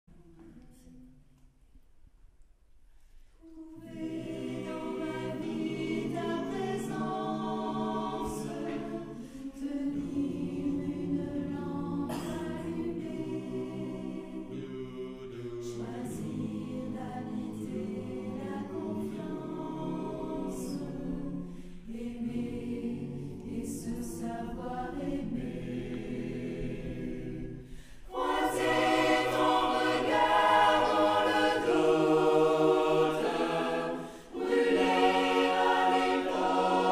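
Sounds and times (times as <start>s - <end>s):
choir singing a cappella hymn: 3.1s - 36.9s.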